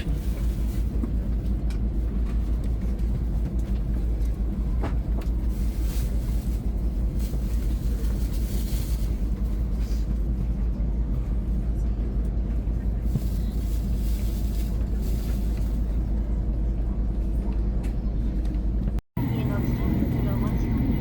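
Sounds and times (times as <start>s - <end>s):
train rumble inside cabin: 0.0s - 21.0s.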